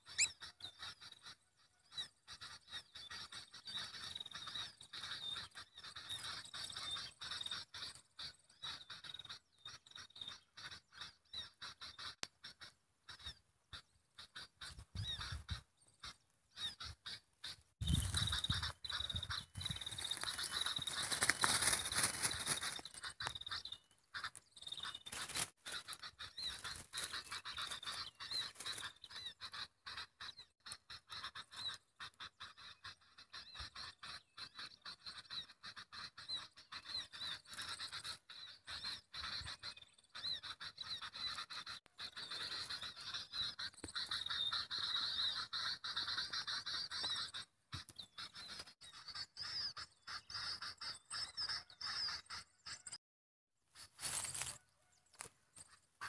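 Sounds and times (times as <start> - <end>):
small birds twittering: 0.0 - 53.0.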